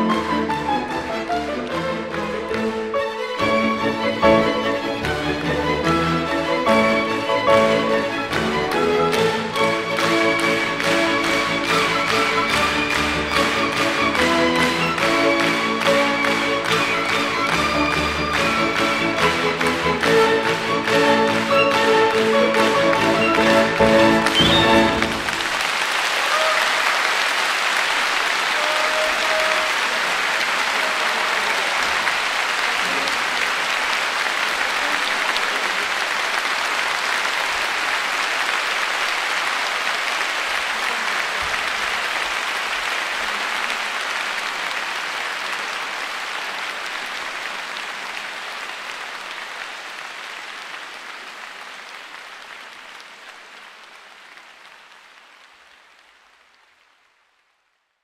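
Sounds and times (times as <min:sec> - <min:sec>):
audience applauding: 0:00.0 - 0:57.6.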